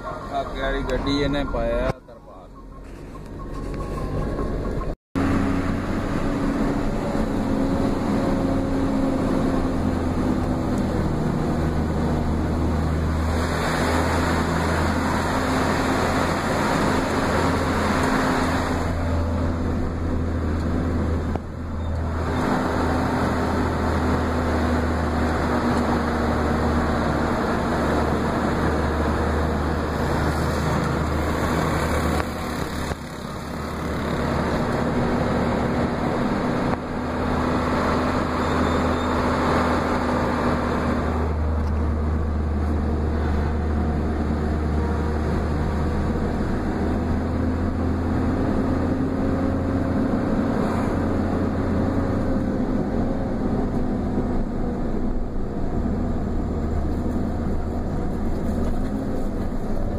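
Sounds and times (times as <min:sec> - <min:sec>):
road noise: 0:00.0 - 0:59.9
vehicle engine drone: 0:00.0 - 0:59.9.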